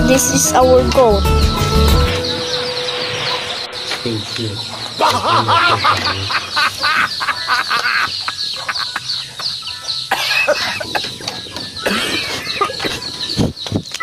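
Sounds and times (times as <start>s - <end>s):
poultry calling: 1.7s - 13.7s.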